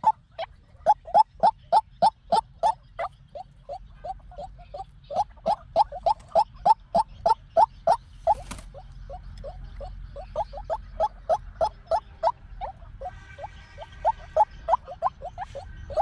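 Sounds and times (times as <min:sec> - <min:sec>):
bird croaking calls: 0:00.0 - 0:16.0.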